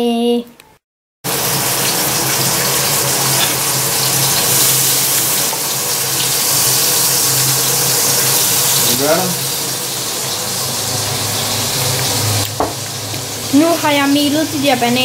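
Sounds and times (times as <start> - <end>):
meat sizzling in a frying pan: 1.3 - 15.0.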